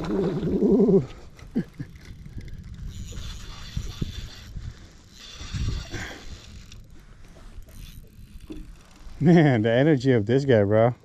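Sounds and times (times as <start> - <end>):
fishing reel gears whirring: 1.0 - 10.0.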